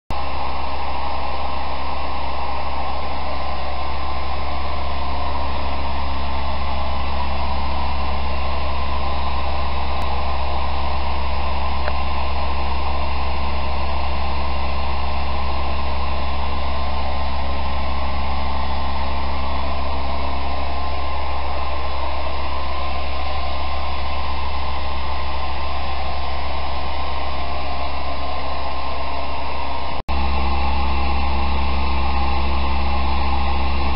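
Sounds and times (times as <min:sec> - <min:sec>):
blower fan rushing air: 0:00.1 - 0:33.9
low motor hum: 0:00.1 - 0:33.9.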